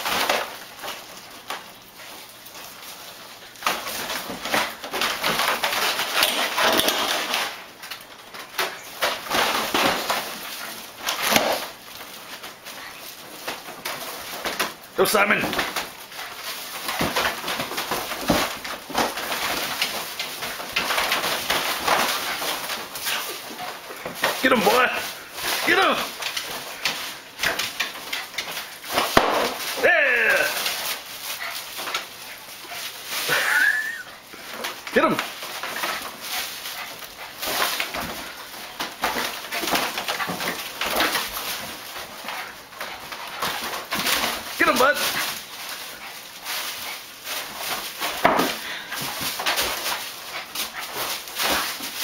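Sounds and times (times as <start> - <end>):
scuffling and rubbing balloons: 0.0 - 52.0.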